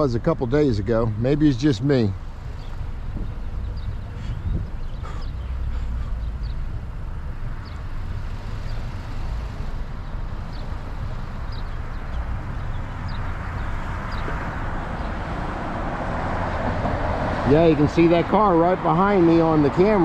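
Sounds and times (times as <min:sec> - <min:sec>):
birds chirping: 0:00.0 - 0:20.0
road traffic noise: 0:00.0 - 0:20.0
wind rumble on microphone: 0:02.1 - 0:18.8.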